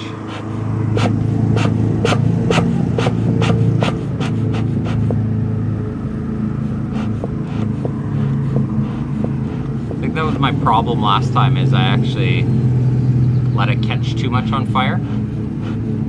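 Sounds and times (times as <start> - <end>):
bellows puffing and clicking: 0.0 - 5.4, 6.5 - 16.0.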